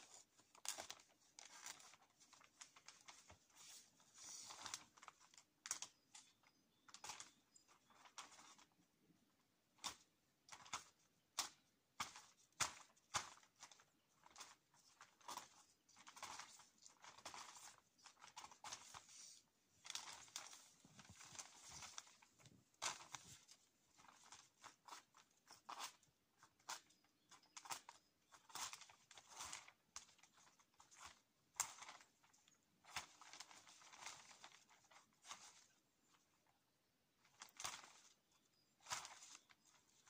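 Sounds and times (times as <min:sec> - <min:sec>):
plastic sheeting crinkling: 0:00.0 - 0:09.0, 0:09.7 - 0:40.0.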